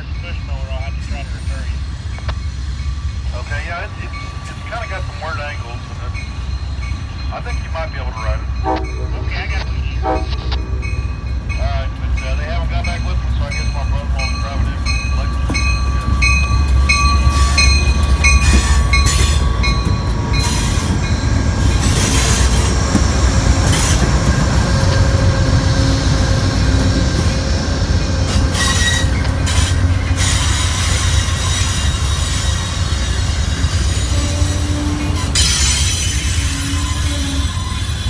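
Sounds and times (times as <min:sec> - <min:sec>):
diesel locomotives running: 0:00.0 - 0:38.0
train rumbling past: 0:00.0 - 0:38.0
wheels squealing on rails: 0:00.0 - 0:38.0.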